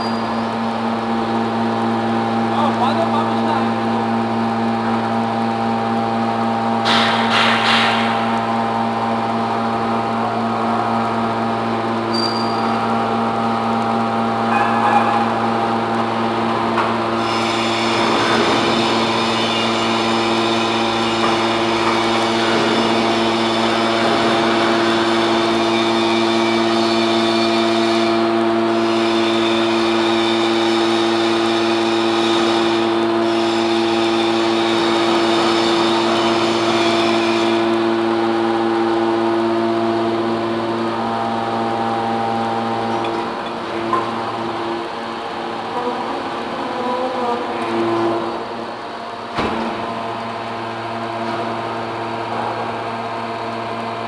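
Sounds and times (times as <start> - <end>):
hydraulic baler motor humming: 0.0 - 54.0.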